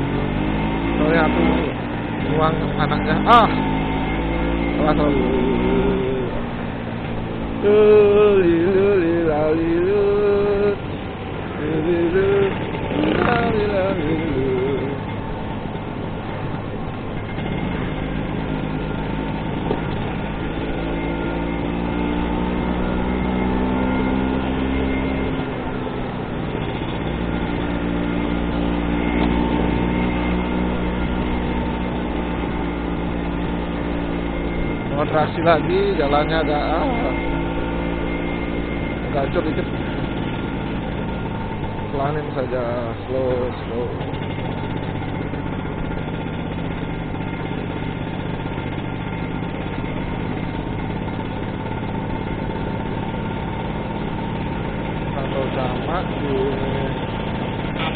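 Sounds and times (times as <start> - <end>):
scooter engine running: 0.0 - 57.9.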